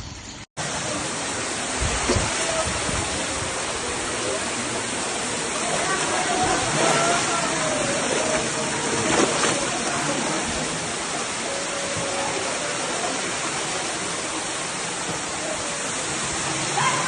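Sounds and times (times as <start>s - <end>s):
floodwater rushing: 0.6s - 17.0s.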